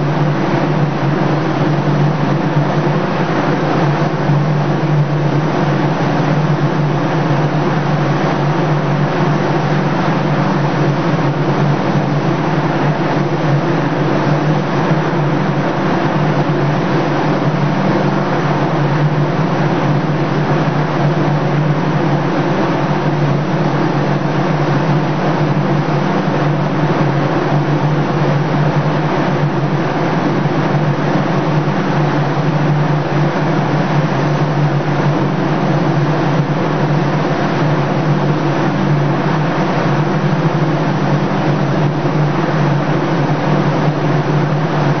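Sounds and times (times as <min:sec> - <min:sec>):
spray booth fan hum: 0:00.0 - 0:45.0.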